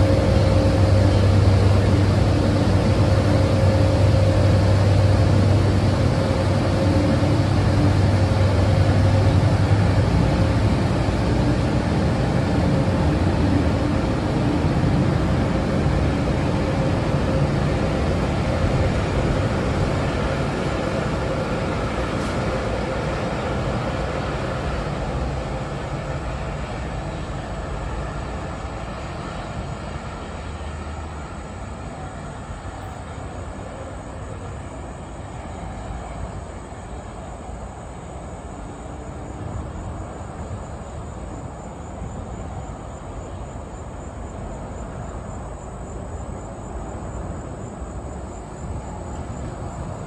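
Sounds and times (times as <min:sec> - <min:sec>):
commuter train rumbling past: 0:00.0 - 0:50.0.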